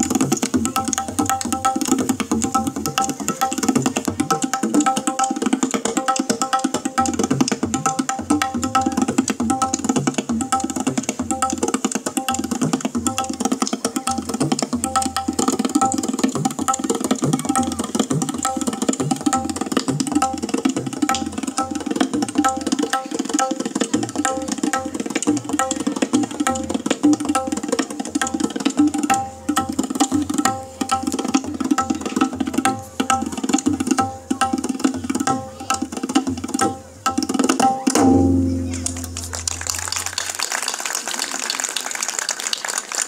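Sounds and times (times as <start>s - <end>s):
tabla drumming: 0.0s - 40.9s.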